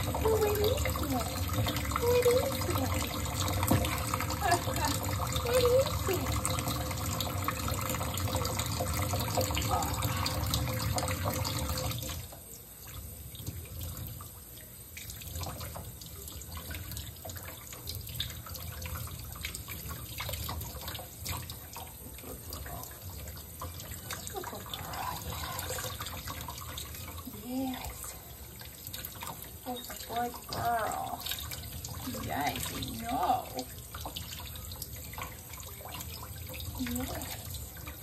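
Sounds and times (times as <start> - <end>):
faucet running into metal sink: 0.0 - 38.0
water splashing and dripping: 0.0 - 38.0.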